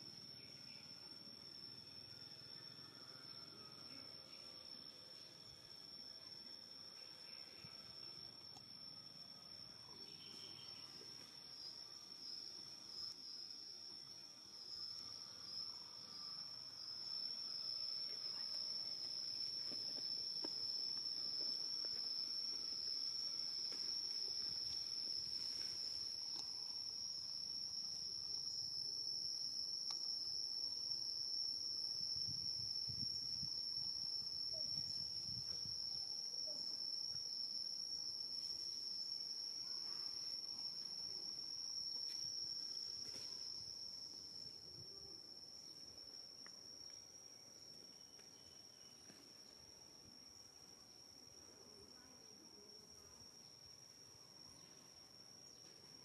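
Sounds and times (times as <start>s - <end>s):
shrill insect chorus: 0.0s - 56.0s.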